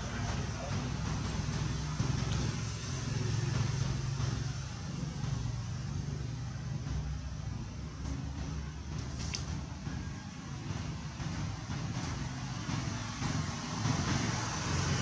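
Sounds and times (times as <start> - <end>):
engine humming with hiss: 0.0 - 15.0.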